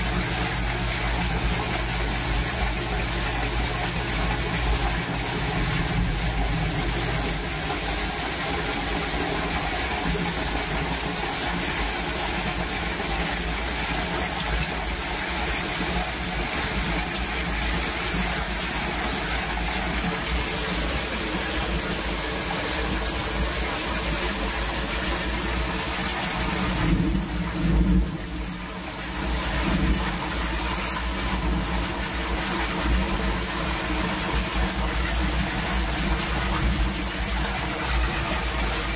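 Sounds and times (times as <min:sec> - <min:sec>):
water gushing from a drain pipe: 0:00.0 - 0:38.9
water splashing into a basin: 0:00.0 - 0:38.9.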